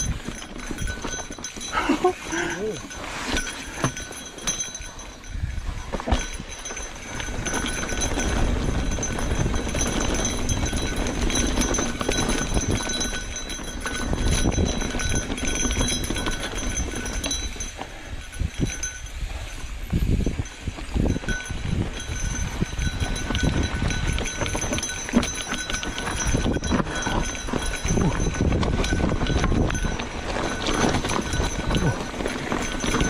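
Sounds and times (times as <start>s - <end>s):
bike rattling: 0.0s - 33.0s
bike tires rolling over rocks: 0.0s - 33.0s.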